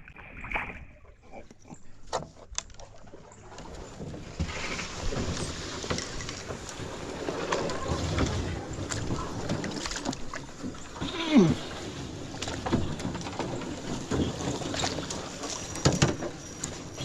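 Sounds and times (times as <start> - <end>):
paddles knocking against hull: 0.0 - 17.0
paddles splashing water: 0.0 - 17.0.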